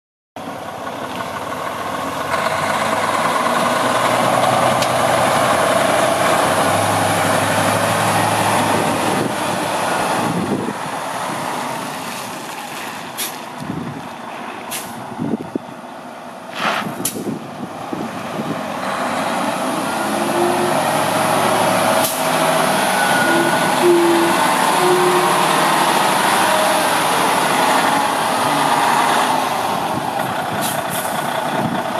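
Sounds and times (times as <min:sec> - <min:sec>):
diesel truck engine running: 0:00.4 - 0:16.4, 0:17.0 - 0:31.9.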